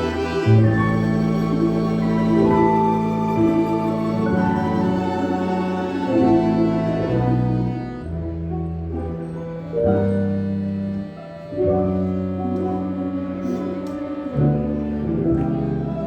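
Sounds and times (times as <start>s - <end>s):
folk instrument orchestra playing chords: 0.0s - 16.0s.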